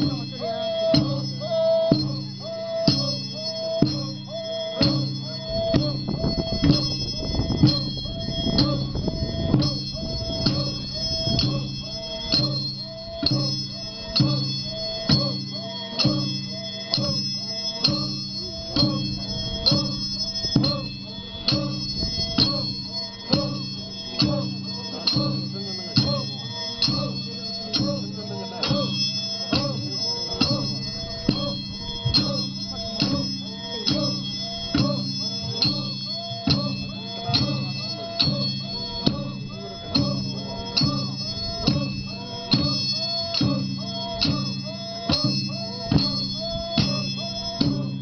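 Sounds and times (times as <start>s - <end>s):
warriors chanting in unison: 0.0s - 48.0s.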